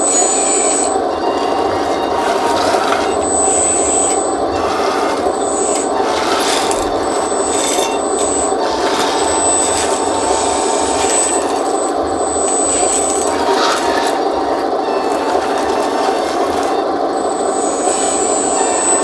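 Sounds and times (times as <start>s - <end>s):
electric hydraulic pump running: 0.4s - 19.0s.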